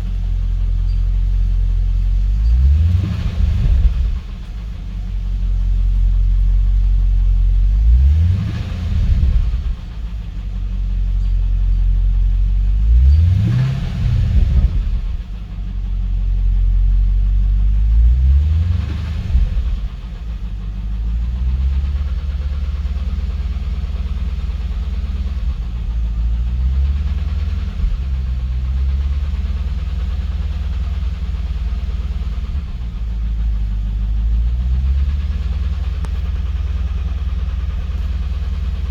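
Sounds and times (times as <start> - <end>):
car engine revving: 0.0 - 11.2, 12.2 - 38.9
car engine idling: 0.0 - 38.9.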